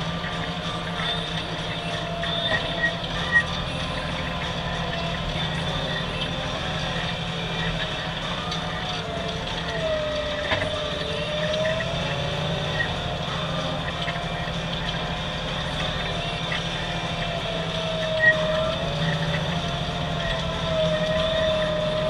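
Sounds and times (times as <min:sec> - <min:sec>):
tractor engine drone under load: 0:00.0 - 0:22.0.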